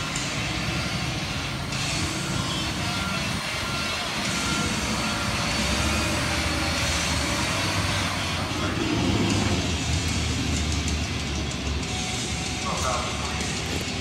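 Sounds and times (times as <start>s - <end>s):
road noise: 0.0s - 14.0s
truck diesel engine: 0.0s - 14.0s.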